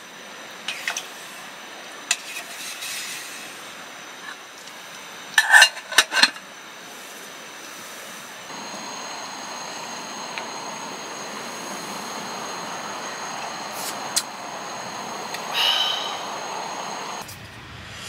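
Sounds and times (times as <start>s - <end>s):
steady hiss of heating pot: 0.0s - 18.0s.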